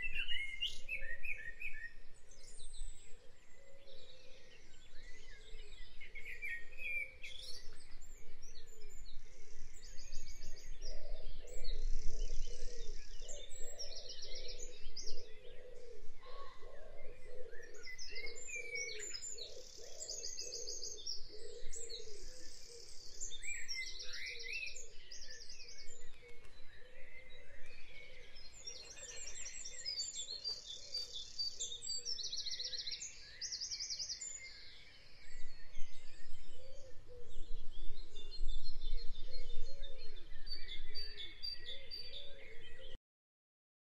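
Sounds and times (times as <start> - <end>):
birds singing: 0.0 - 43.0.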